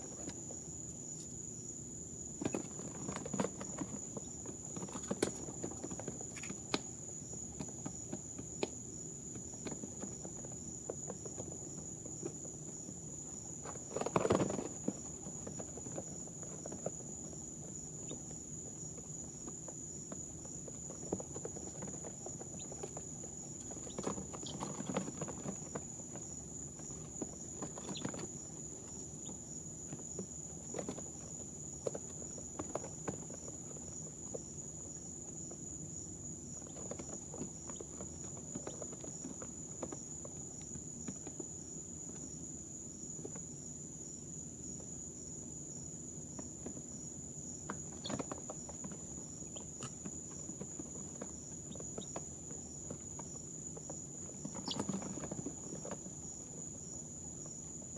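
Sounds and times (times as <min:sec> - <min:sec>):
chicks scuffling: 0:00.0 - 0:57.9
chicks tapping and rustling: 0:00.0 - 0:57.9.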